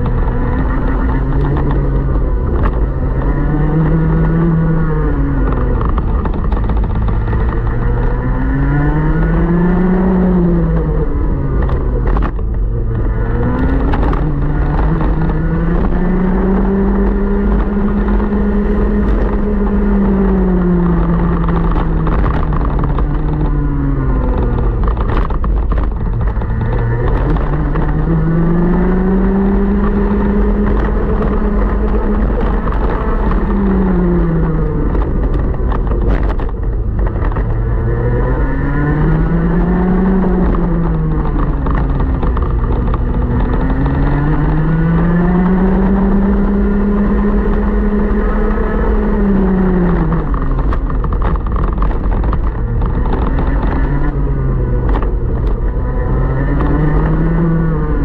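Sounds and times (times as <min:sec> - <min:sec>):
two-stroke kart engine racing: 0:00.0 - 0:58.0.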